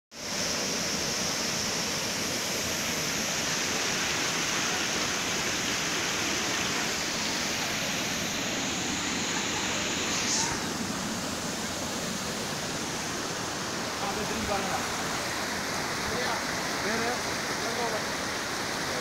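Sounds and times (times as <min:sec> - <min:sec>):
waterfall rushing: 0:00.1 - 0:19.0.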